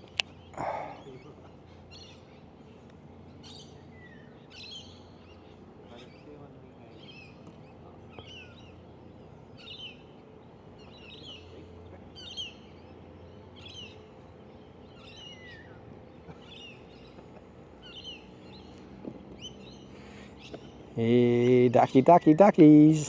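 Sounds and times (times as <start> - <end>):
bird singing: 0.0 - 23.0
faint outdoor background: 0.0 - 23.0.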